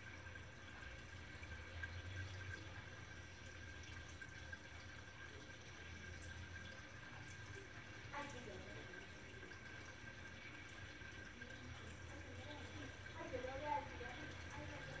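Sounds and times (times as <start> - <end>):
aquarium filter humming: 0.0 - 15.0
faint trickling water: 0.0 - 15.0.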